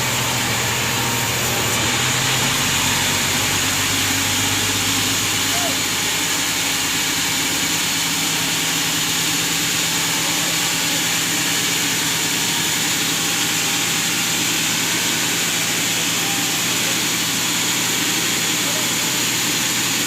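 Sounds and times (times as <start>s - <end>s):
sawmill machinery hum and hiss: 0.0s - 20.0s.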